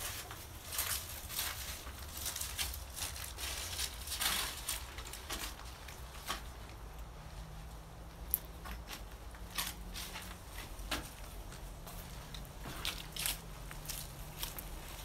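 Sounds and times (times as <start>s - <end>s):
footsteps crunching on dry leaves: 0.0s - 7.4s, 8.8s - 15.0s.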